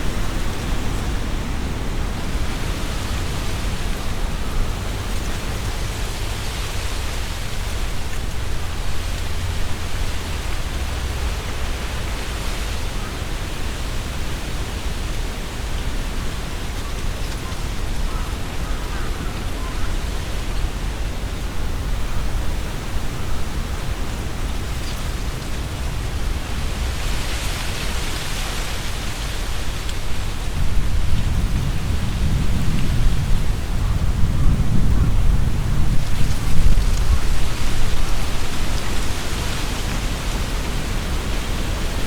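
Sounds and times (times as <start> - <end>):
wind buffeting microphone: 0.0 - 42.0
wind rustling tree leaves: 0.0 - 42.0.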